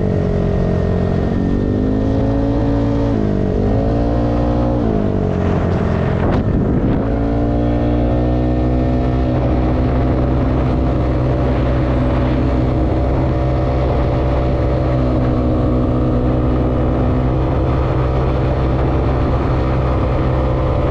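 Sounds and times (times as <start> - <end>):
scooter engine running: 0.0 - 20.9
wind rumble on microphone: 0.0 - 20.9.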